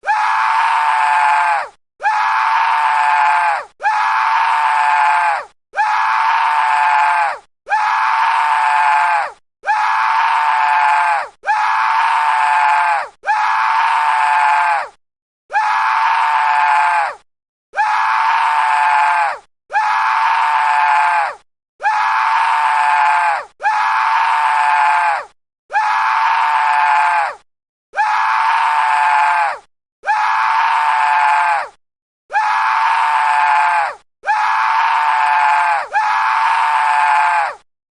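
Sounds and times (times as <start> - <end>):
man screaming: 0.0 - 37.6.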